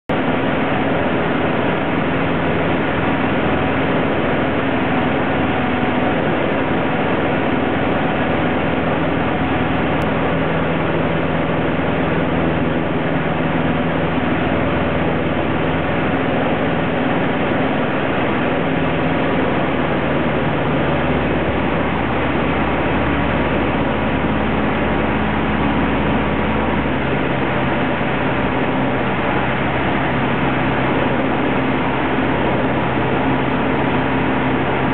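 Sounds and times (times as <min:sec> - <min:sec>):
light aircraft engine droning: 0:00.1 - 0:34.9.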